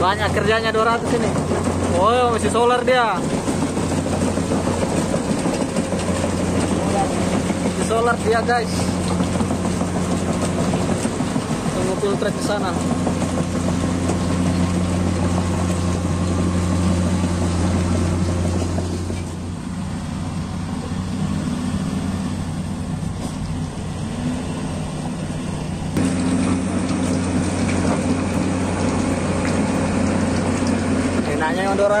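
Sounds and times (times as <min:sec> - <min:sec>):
heavy diesel engine droning: 0:00.0 - 0:32.0.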